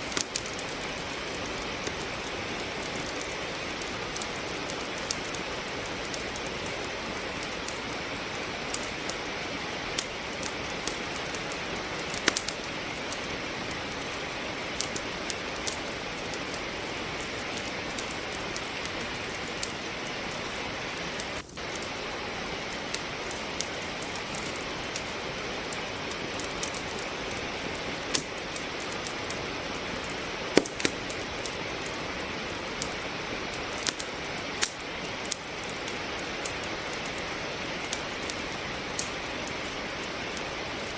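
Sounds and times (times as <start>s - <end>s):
rain hiss: 0.0s - 40.9s
wood fire crackling: 0.0s - 40.9s.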